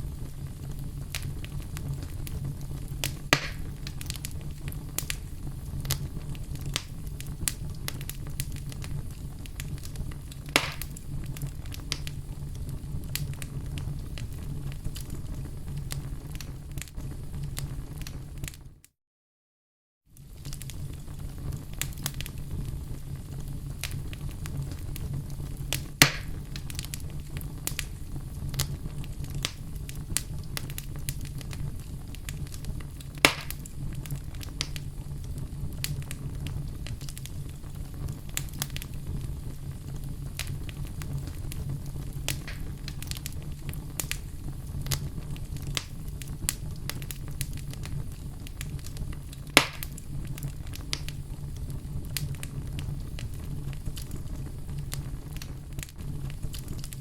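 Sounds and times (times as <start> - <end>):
sharp pops of fire: 0.0 - 18.6, 20.2 - 57.0
fire crackling: 0.0 - 18.8, 20.1 - 57.0
fire flames rumbling: 0.0 - 18.8, 20.1 - 57.0.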